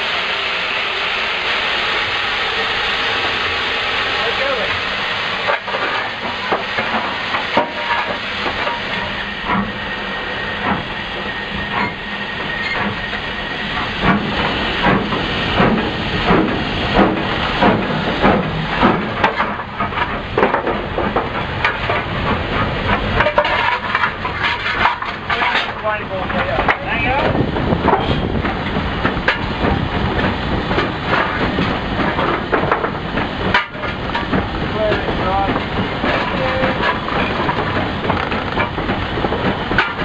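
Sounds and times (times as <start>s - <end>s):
steam hissing: 0.0s - 40.0s
steam locomotive beat: 0.0s - 40.0s.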